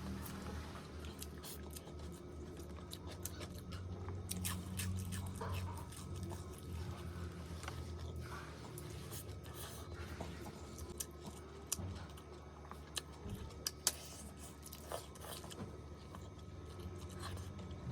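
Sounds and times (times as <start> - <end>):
quiet chewing: 0.1 - 17.9.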